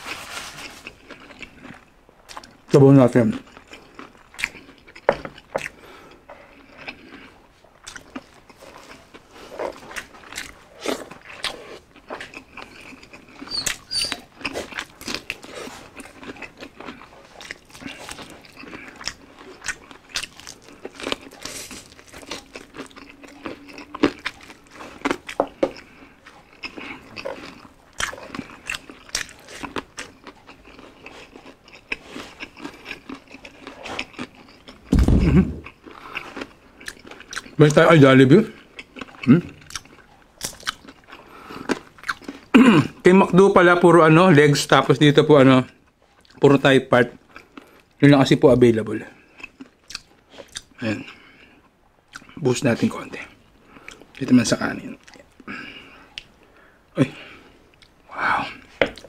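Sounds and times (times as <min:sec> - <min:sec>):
crispy food being chewed: 0:00.0 - 0:59.0.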